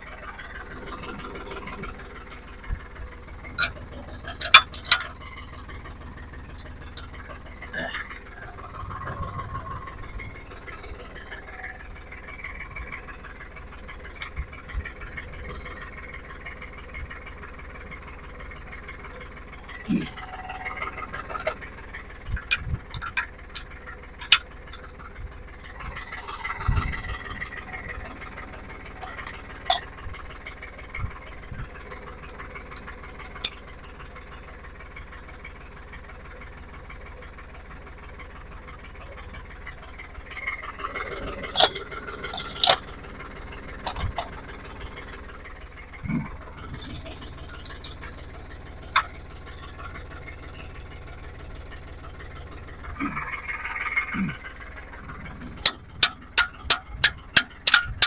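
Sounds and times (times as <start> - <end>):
diesel engine idling: 0.0 - 58.0
metallic hitch clanks: 3.4 - 33.9, 40.3 - 45.4, 46.1 - 54.1, 54.8 - 58.0.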